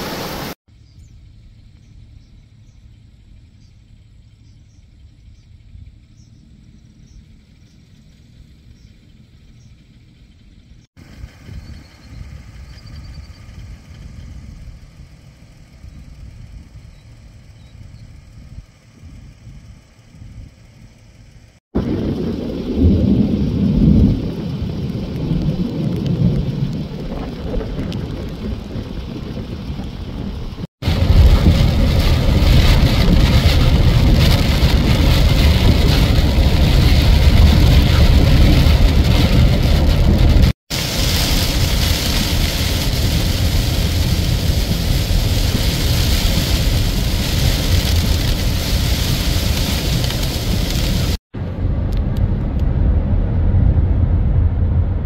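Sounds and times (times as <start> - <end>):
rain hiss: 0.0 - 0.6, 1.2 - 51.2
steady low rumble: 0.7 - 55.0.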